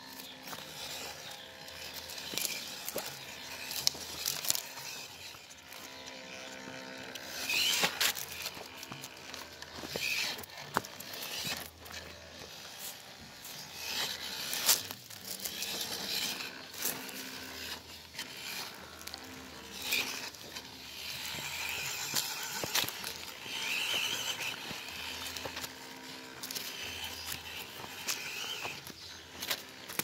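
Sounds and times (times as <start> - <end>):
electric motor and gears whirring: 0.0 - 30.0
tyres crunching over twigs and leaves: 0.0 - 30.0.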